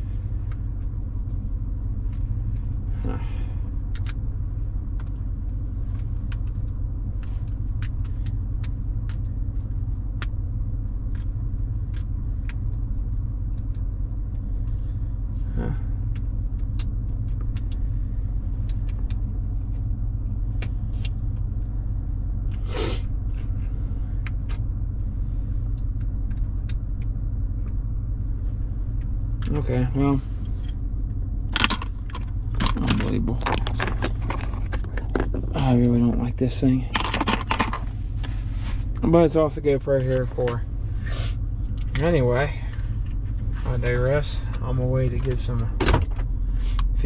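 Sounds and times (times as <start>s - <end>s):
engine rumble inside cab: 0.0s - 47.0s.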